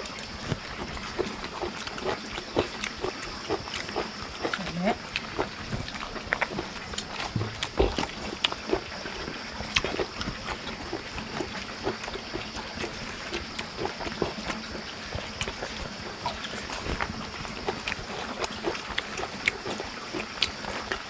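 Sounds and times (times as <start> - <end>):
people chewing and lip-smacking: 0.0 - 21.0.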